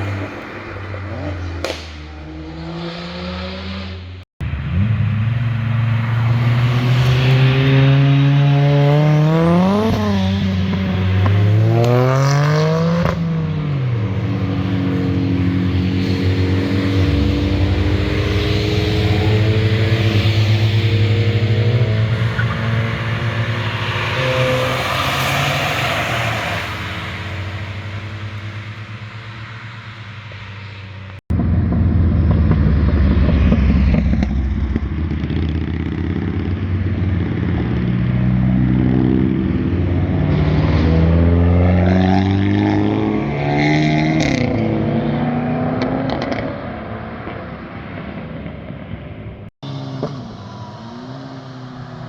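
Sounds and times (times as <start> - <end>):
car engine accelerating and shifting: 0.0 - 48.6, 49.6 - 52.0.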